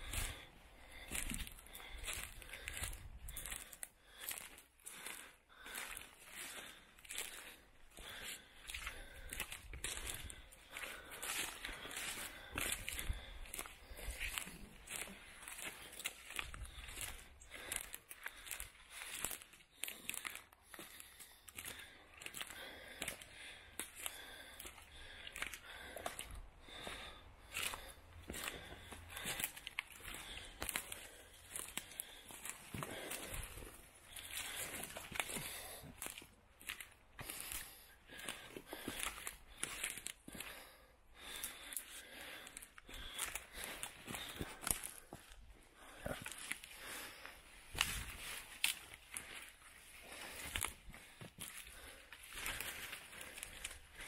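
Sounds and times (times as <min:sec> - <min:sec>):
footsteps crunching dry leaves: 0:00.0 - 0:40.6, 0:41.2 - 0:54.0.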